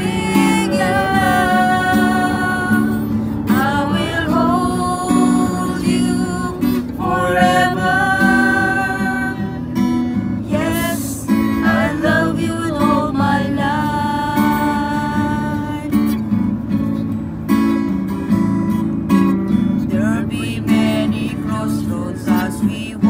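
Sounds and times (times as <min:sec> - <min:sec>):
person singing a hymn: 0:00.0 - 0:16.1, 0:19.9 - 0:23.0
acoustic guitar strumming: 0:00.0 - 0:23.0.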